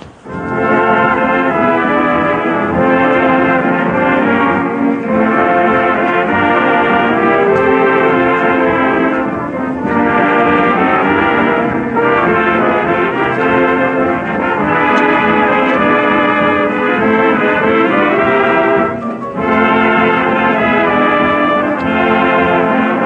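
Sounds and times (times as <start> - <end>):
dance band with brass: 0.0 - 23.0.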